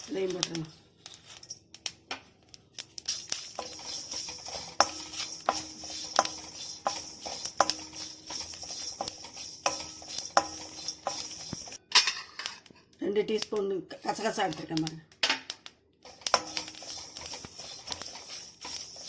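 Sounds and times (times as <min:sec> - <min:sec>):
spoon scraping spices in pan: 0:00.0 - 0:12.7, 0:13.4 - 0:14.9, 0:16.0 - 0:19.0.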